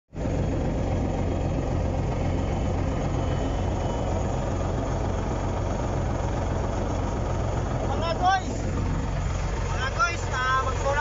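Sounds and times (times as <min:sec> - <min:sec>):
bulldozer diesel engine running: 0:00.1 - 0:11.0.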